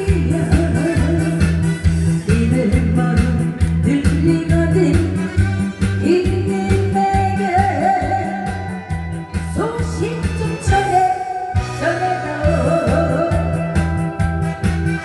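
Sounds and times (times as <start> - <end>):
woman singing into a microphone: 0.0 - 14.4
amplified backing music with bass beat: 0.0 - 15.0.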